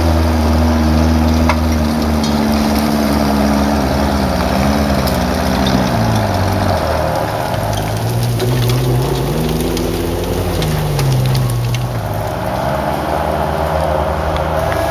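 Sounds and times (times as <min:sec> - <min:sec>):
engine revving hard: 0:00.0 - 0:14.9
noisy rush: 0:00.0 - 0:14.9.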